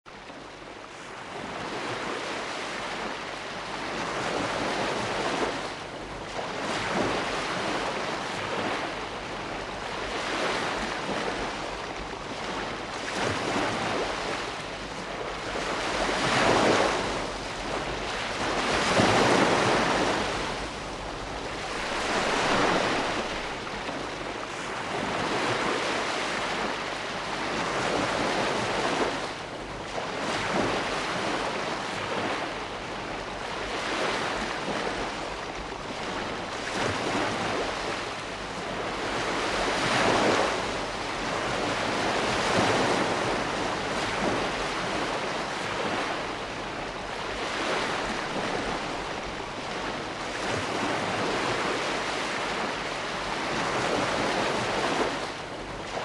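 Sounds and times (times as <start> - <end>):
ocean waves breaking: 0.1 - 56.0.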